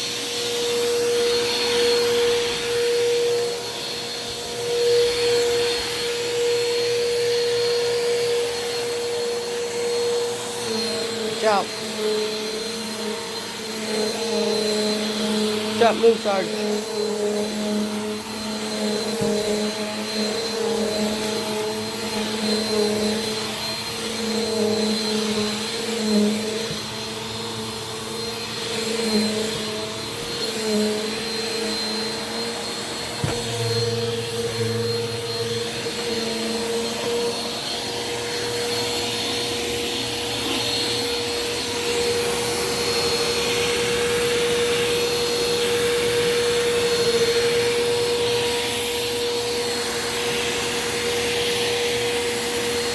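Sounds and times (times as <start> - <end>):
vacuum cleaner on carpet: 0.0 - 52.9.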